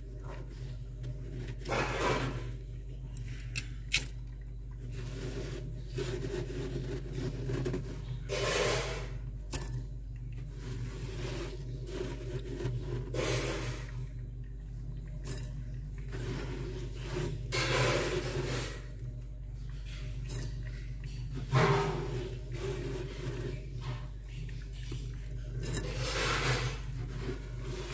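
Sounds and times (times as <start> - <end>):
frost crunching and scraping: 0.0 - 14.2, 14.8 - 27.9
steady low hum: 0.0 - 27.9.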